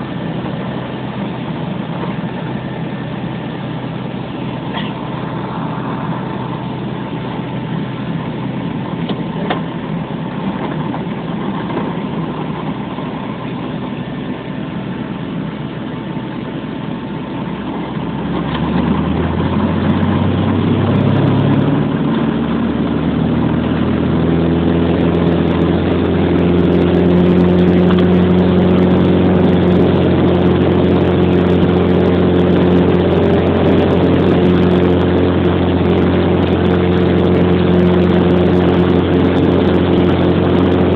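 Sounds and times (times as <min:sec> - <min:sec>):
small plane propeller engine: 0:00.0 - 0:40.9.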